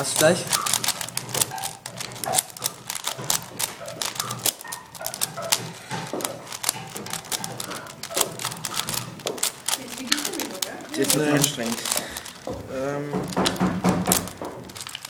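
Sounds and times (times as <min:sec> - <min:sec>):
speed cube clicking: 0:00.0 - 0:15.0.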